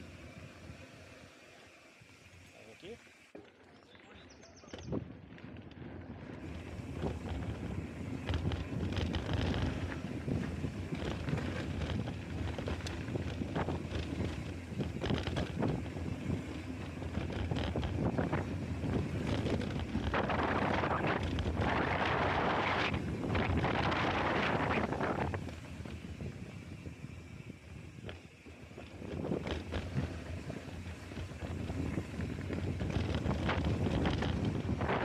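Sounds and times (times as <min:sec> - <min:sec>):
bike tyres rumbling on dirt: 0:00.0 - 0:35.0
bike clicks and rattles: 0:03.2 - 0:35.0
wind buffeting microphone: 0:04.8 - 0:35.0.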